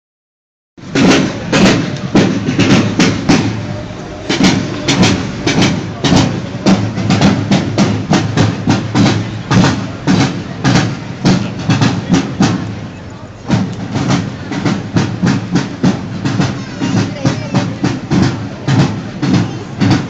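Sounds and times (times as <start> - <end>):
marching field drums: 0.8 - 20.0.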